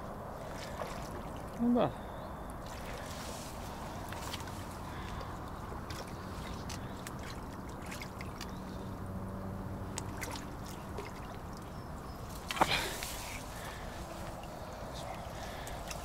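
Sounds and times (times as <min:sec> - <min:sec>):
water sloshing: 0:00.0 - 0:16.0.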